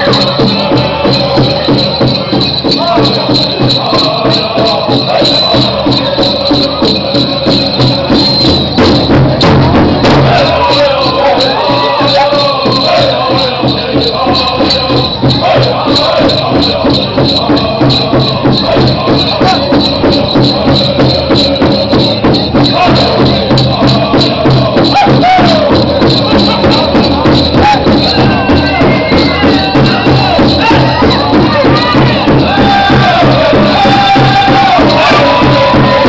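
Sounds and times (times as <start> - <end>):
big drum beat: 0.0 - 36.0
group singing: 0.0 - 36.0
jingling bells: 0.0 - 36.0.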